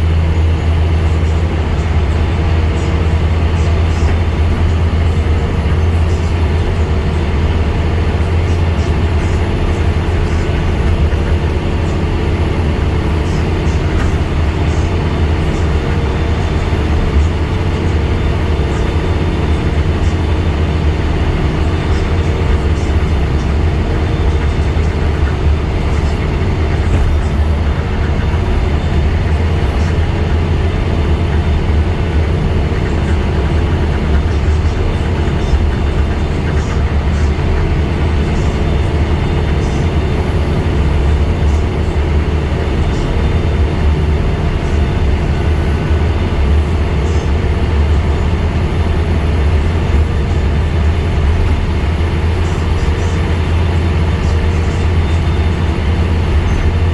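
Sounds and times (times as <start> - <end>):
bus diesel engine droning: 0.0 - 56.9
road noise: 0.0 - 56.9.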